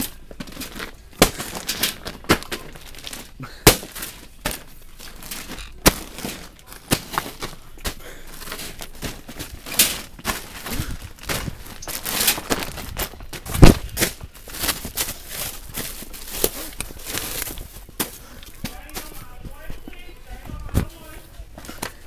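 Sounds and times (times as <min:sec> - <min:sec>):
plastic packaging crinkling: 0:00.0 - 0:22.0.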